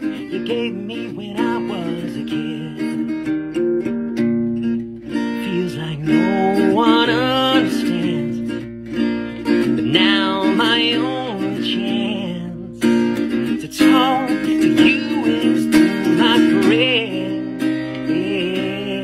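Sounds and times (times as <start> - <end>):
man singing a ballad: 0.0 - 3.4, 5.1 - 19.0
strummed acoustic guitar: 0.0 - 19.0.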